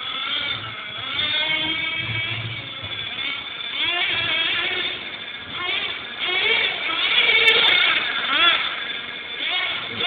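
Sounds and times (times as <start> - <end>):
rc buggy engine revving: 0.0 - 10.0.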